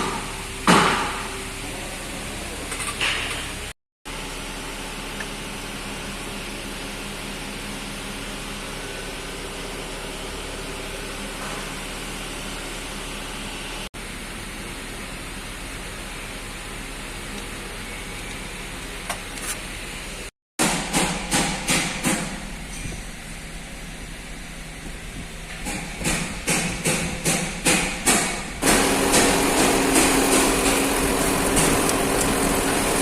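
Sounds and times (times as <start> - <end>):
mechanical hum: 0.0 - 33.0.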